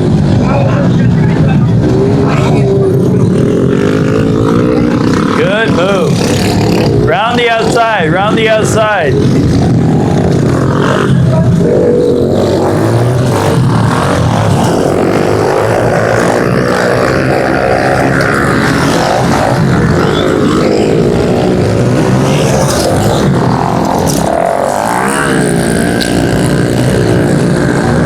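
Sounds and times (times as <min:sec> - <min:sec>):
pit bike engines racing: 0:00.0 - 0:28.0.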